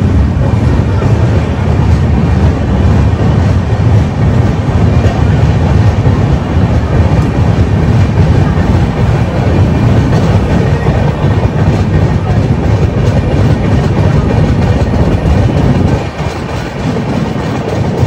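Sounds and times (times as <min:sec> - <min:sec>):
train wheels rumbling on rails: 0:00.0 - 0:18.0
wheels clickety-clack: 0:00.0 - 0:18.0
wind noise: 0:00.0 - 0:18.0.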